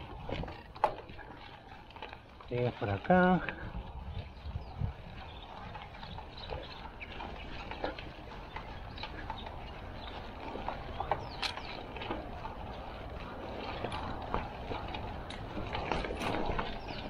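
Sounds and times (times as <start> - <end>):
bike rattling clicks: 0.0 - 17.0
tyres crunching on stony dirt: 0.0 - 17.0.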